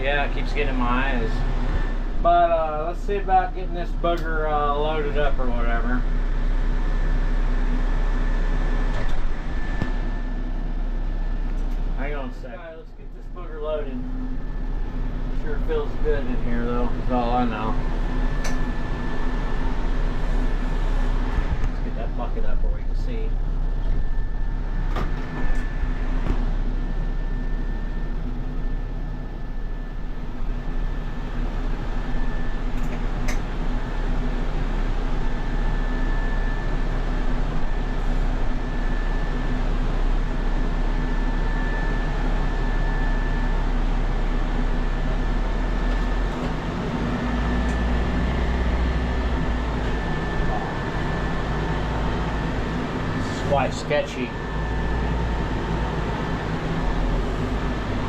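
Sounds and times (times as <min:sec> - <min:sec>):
diesel engine running: 0:00.0 - 0:58.0
high whine: 0:00.0 - 0:58.0.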